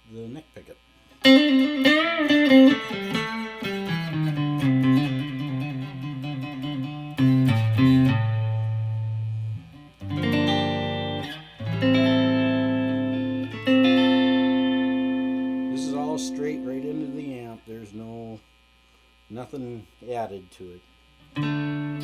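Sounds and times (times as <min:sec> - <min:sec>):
clean electric guitar riff: 0:01.2 - 0:18.3, 0:21.3 - 0:22.0
guitar chords strummed: 0:01.2 - 0:18.3, 0:21.2 - 0:22.0.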